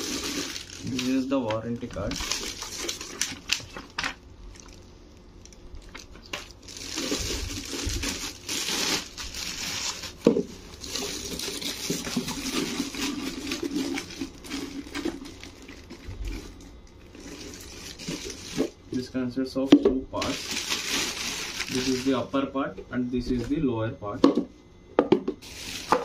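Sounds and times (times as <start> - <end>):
plastic bags crinkling: 0.0 - 18.8, 20.2 - 22.3, 25.4 - 26.0.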